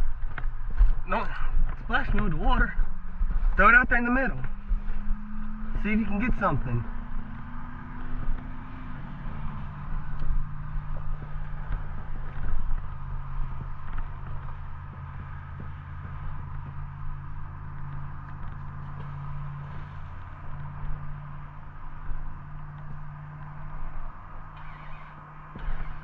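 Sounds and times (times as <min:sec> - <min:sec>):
engine running: 0:00.0 - 0:26.0
uneven low rumble: 0:00.0 - 0:26.0.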